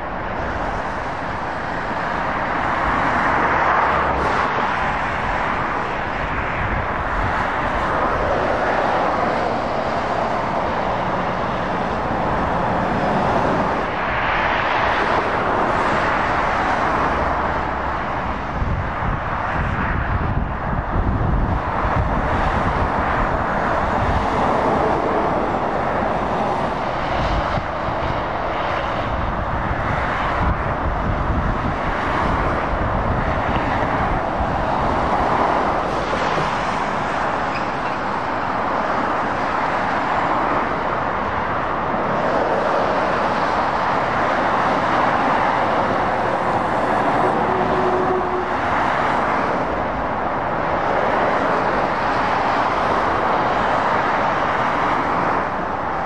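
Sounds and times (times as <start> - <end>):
traffic passing on wet road: 0.0 - 56.0.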